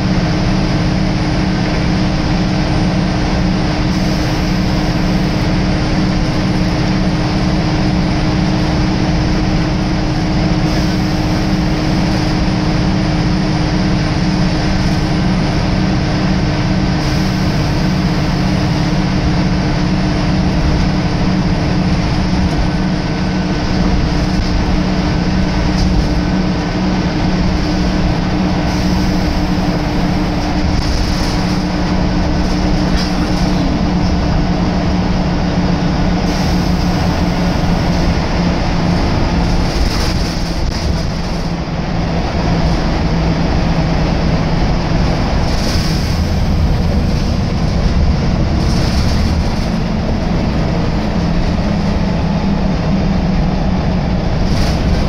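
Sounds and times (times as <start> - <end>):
bus diesel engine drone: 0.0 - 55.0
road and tyre noise: 0.0 - 55.0.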